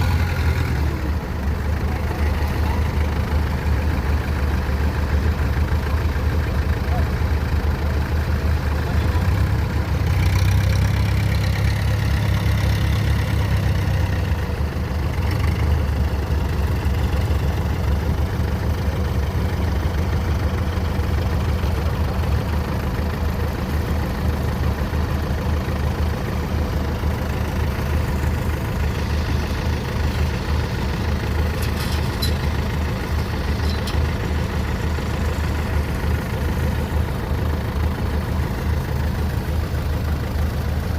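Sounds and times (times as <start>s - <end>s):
diesel farm machinery engine: 0.0s - 40.9s.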